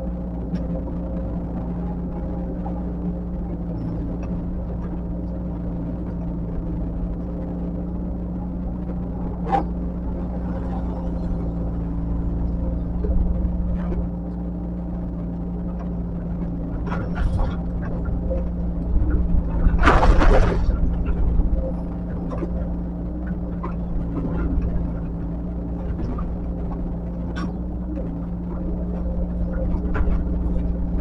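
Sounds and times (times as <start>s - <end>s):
heavy machinery diesel engine: 0.0s - 31.0s.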